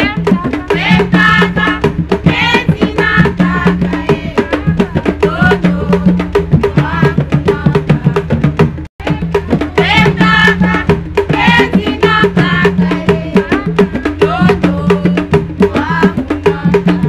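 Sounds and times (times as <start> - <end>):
frame drums beating: 0.0 - 17.0
women singing: 0.0 - 17.0.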